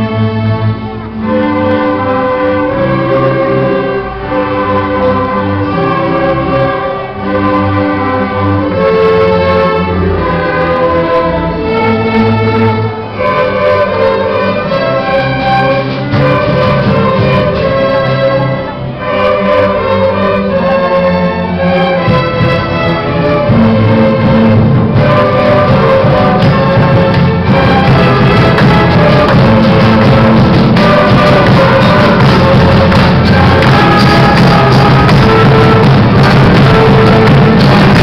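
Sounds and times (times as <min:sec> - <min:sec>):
folk ensemble playing dance tune: 0:00.0 - 0:38.0.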